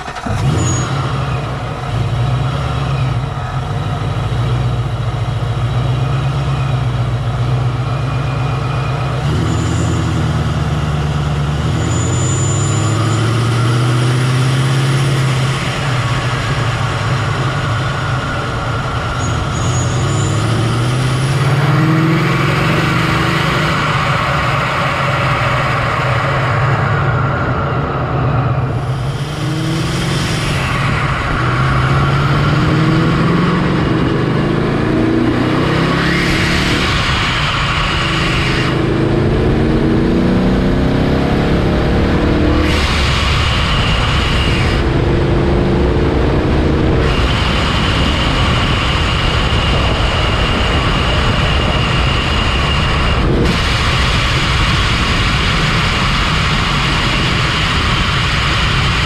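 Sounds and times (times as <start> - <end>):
car engine accelerating through gears: 0.0 - 59.0
supercharger whine: 0.0 - 59.0.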